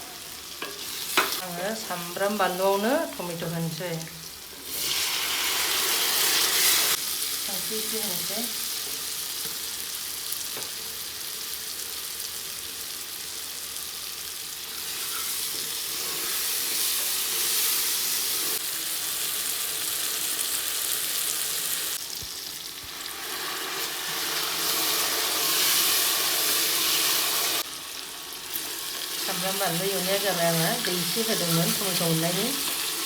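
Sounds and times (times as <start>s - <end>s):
sauce sizzling in hot oil: 0.0s - 33.0s.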